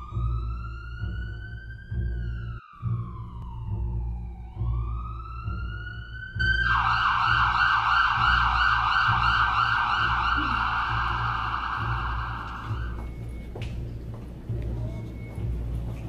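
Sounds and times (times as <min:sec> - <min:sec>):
ambulance siren: 0:00.0 - 0:16.0.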